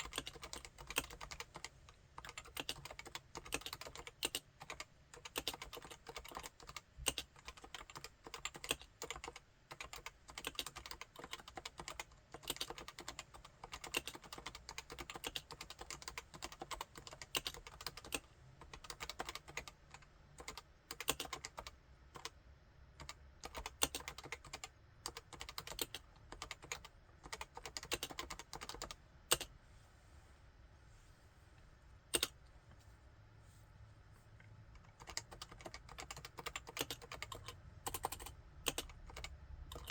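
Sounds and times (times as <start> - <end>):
typing on a keyboard: 0.0 - 22.4, 23.0 - 29.5, 32.1 - 32.4, 34.8 - 39.9.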